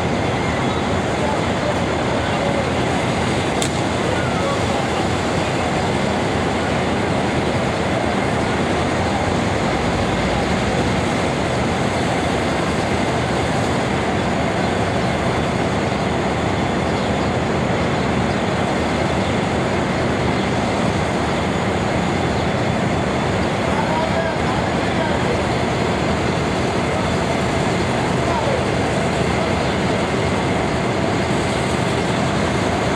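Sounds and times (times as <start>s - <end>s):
train running: 0.0s - 32.9s.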